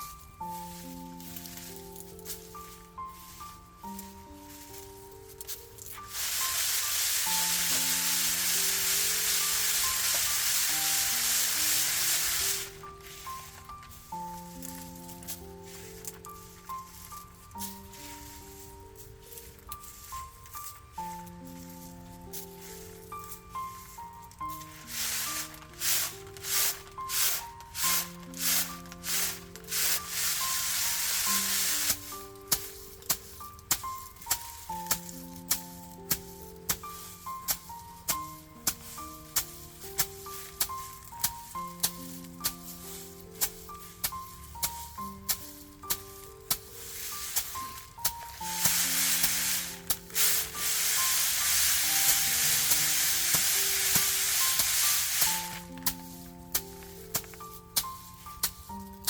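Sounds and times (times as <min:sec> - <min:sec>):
background music with sustained notes: 0:00.0 - 0:59.0
loud steady hiss: 0:05.9 - 0:19.1, 0:19.7 - 0:59.0.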